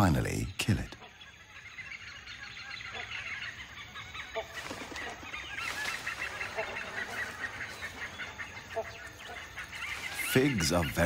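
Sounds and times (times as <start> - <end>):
birds chirping: 0.0 - 11.0
honking bird calls: 0.0 - 11.0.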